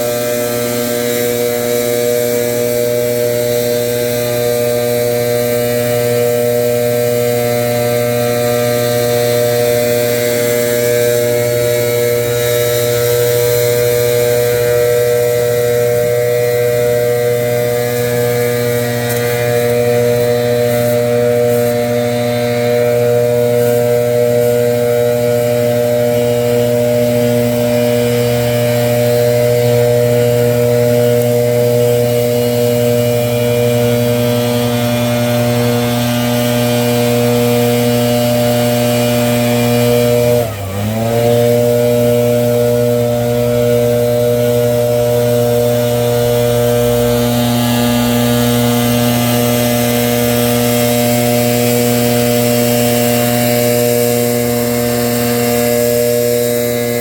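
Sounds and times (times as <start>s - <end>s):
leaf blower running: 0.0s - 57.0s.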